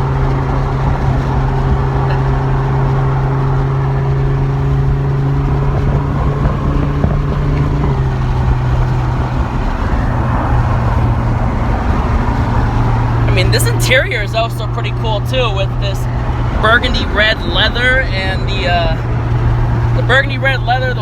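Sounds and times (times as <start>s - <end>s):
car engine droning: 0.0s - 21.0s
road and tyre rumble: 0.0s - 21.0s.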